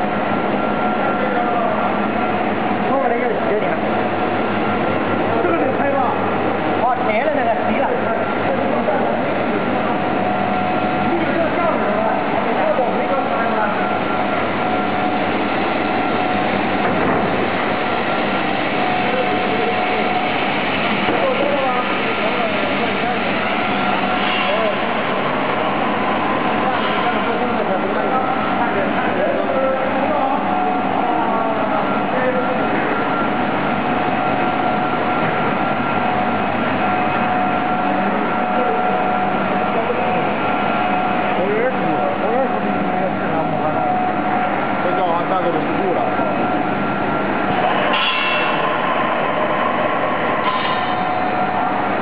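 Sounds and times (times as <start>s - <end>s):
high machine whine: 0.0s - 52.0s
machinery din: 0.0s - 52.0s.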